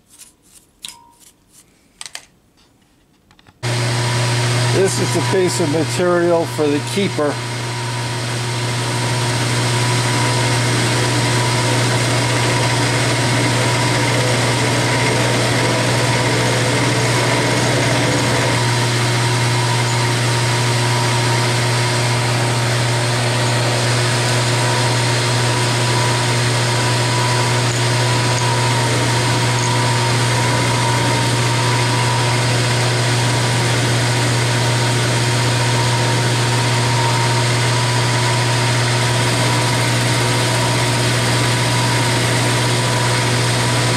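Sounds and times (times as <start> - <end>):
milling machine cutting metal: 3.6 - 43.9.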